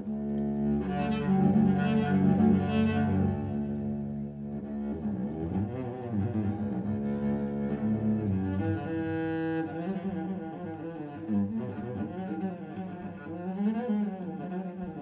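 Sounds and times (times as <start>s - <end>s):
cello melody: 0.0s - 15.0s.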